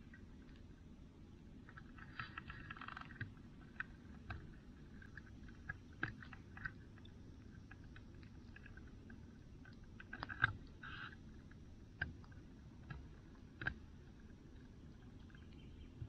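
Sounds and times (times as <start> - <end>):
faint clicks and crackles: 0.0 - 16.0.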